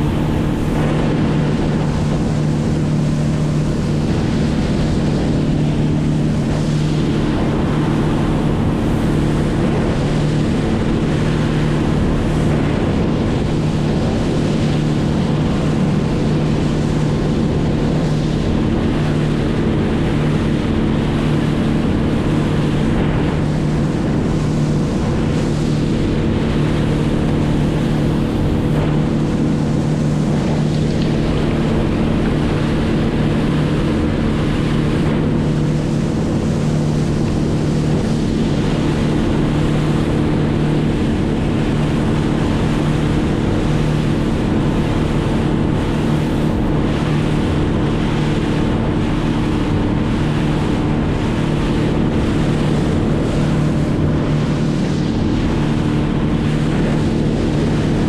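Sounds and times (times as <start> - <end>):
engine running steadily: 0.0 - 58.0
water noise: 0.0 - 58.0
wind noise: 0.0 - 58.0.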